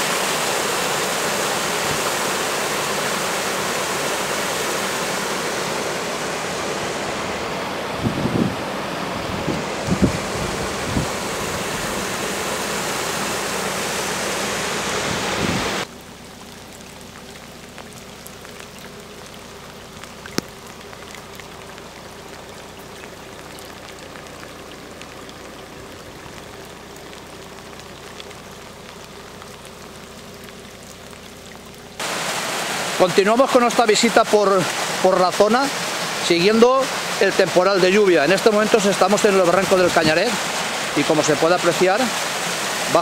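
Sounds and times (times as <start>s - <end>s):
floodwater rushing: 0.0s - 43.0s
rain on standing water: 0.0s - 43.0s.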